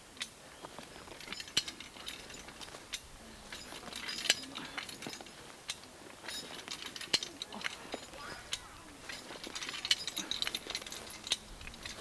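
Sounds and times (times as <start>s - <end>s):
steel chain clinking: 0.2s - 12.0s.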